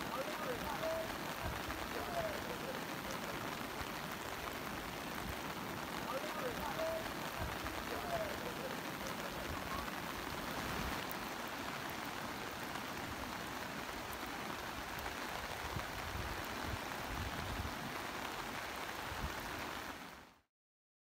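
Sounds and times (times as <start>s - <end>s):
heavy rain falling: 0.0s - 20.4s.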